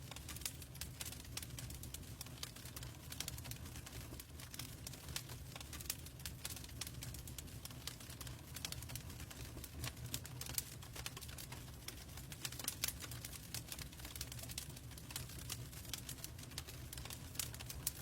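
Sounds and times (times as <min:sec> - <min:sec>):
logs crackling in fireplace: 0:00.0 - 0:18.0
low rumble of flames: 0:00.0 - 0:18.0.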